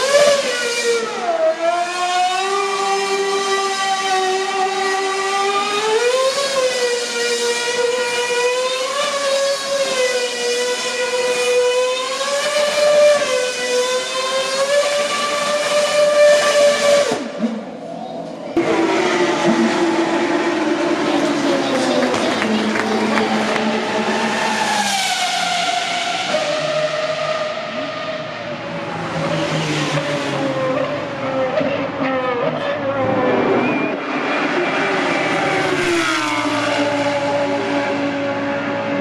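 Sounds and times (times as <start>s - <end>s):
lower-pitched engine: 0.0s - 39.0s
racing car engine at high revs: 0.0s - 39.0s.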